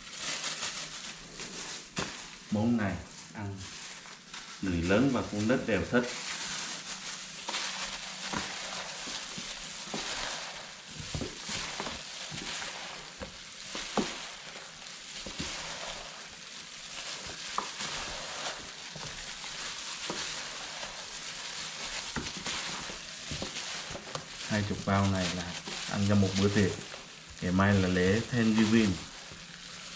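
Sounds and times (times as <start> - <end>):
hands mixing wet marinade: 0.0 - 29.9.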